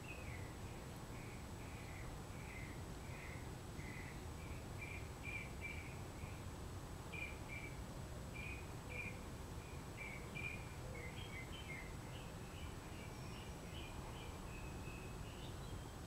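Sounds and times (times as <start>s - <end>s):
bird chirping: 0.0s - 6.4s, 7.1s - 7.8s, 8.4s - 16.0s.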